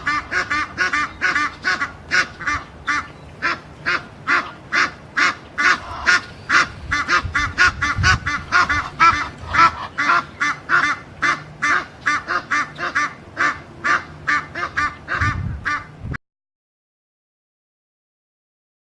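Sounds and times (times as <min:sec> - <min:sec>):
geese honking: 0:00.0 - 0:15.9.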